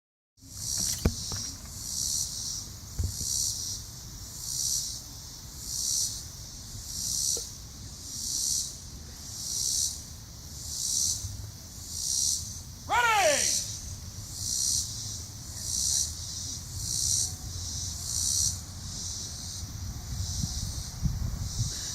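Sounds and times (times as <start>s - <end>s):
insects buzzing in pulses: 0.4s - 21.9s.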